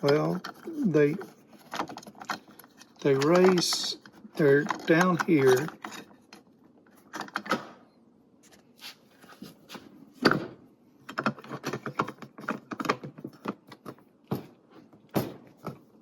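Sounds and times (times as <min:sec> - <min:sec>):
plastic parts clicking and knocking: 0:00.0 - 0:07.8, 0:10.2 - 0:16.0.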